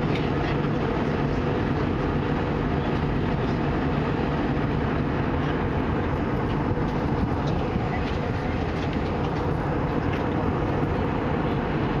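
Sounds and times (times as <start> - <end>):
aircraft cabin engine and airflow noise: 0.0 - 12.0.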